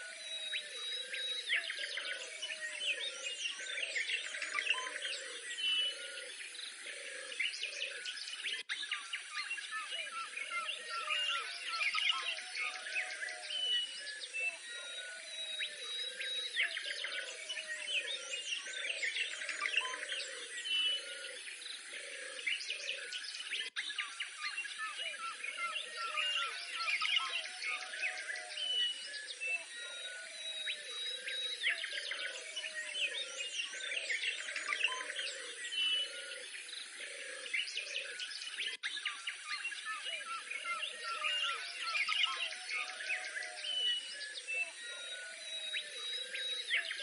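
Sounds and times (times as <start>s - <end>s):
birds chirping and singing: 0.0s - 47.0s.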